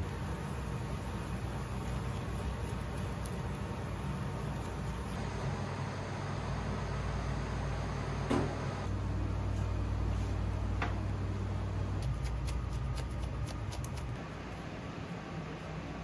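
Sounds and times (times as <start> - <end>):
kitchen ventilation hum: 0.0 - 16.0.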